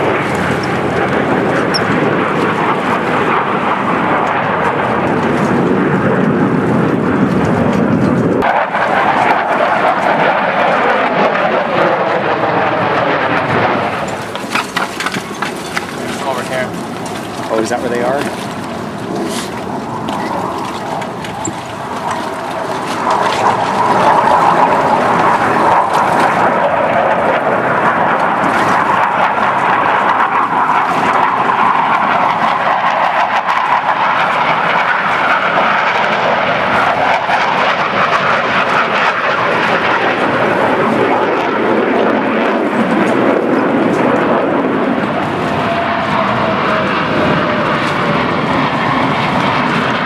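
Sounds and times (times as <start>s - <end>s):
jets flying past: 0.0s - 50.0s.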